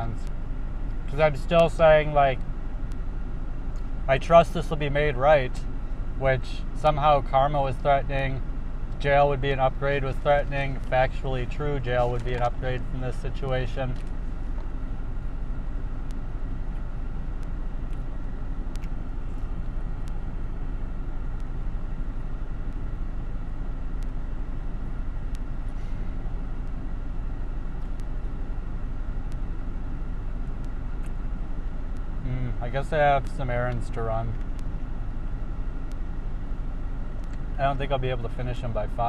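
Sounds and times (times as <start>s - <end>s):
car engine idling: 0.0s - 39.0s
ventilation fan hiss: 0.0s - 39.0s.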